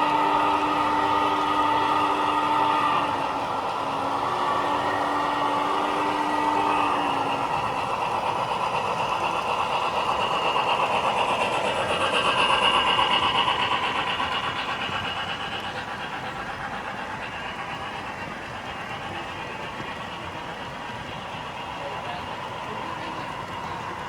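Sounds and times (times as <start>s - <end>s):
model train clattering: 0.0s - 24.0s.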